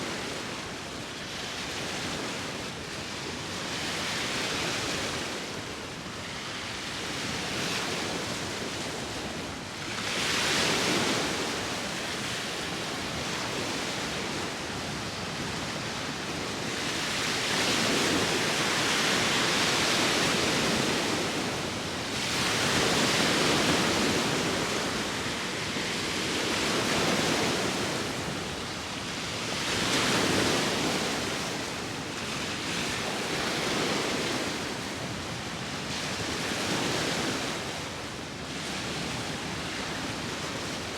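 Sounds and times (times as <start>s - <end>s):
sea waves breaking on shore: 0.0s - 40.9s
wind: 0.0s - 40.9s.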